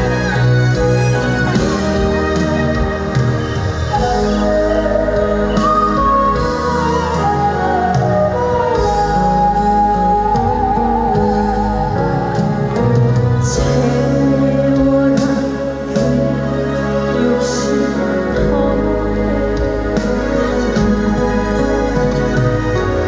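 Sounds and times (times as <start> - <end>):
person singing with band: 0.0 - 23.0.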